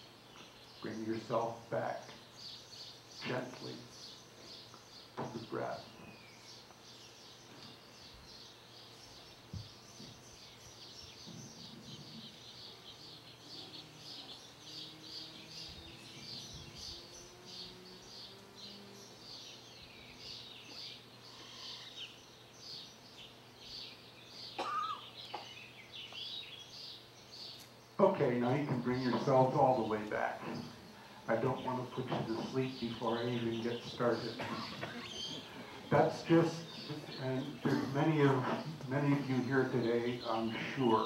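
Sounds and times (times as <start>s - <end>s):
low steady hum: 0.0s - 41.0s
small birds chirping: 0.0s - 41.0s.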